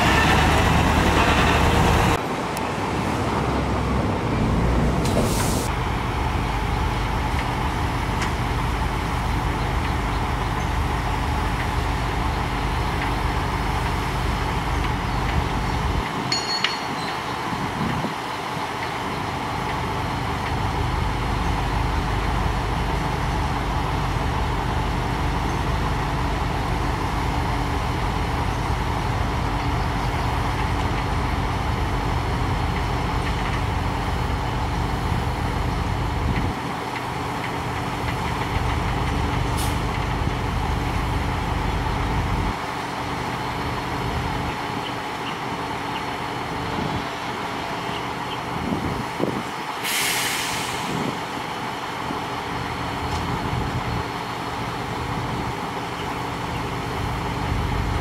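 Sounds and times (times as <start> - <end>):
heavy diesel truck engine: 0.0 - 16.3, 16.9 - 58.0
bulldozer diesel engine: 0.0 - 58.0.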